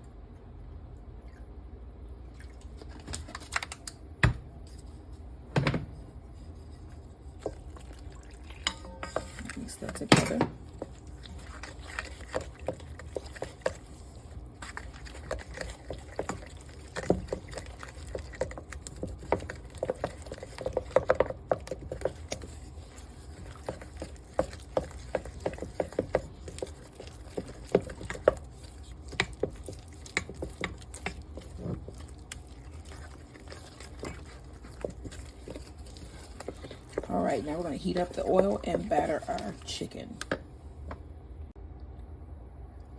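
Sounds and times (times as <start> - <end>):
utensil stirring batter in bowl: 4.6 - 41.0.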